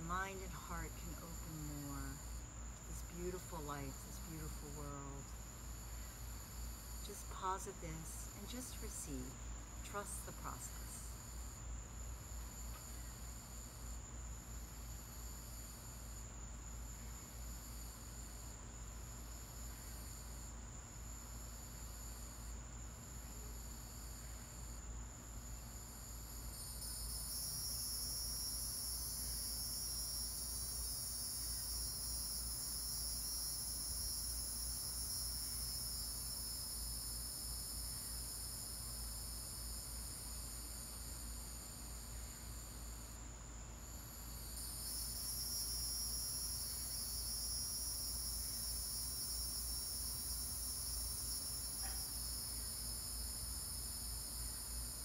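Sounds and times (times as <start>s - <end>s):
insects chirring: 0.5s - 55.0s.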